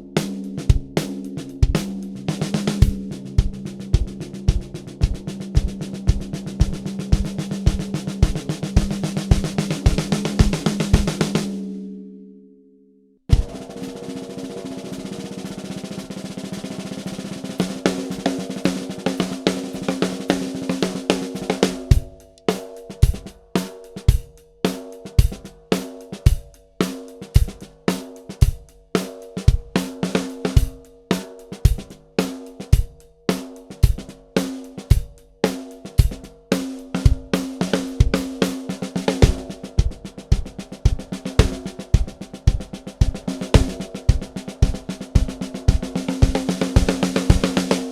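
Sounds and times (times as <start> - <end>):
snare and bass drum groove: 0.0 - 11.5, 13.3 - 47.9
snare drum roll: 0.2 - 11.6, 13.3 - 47.9.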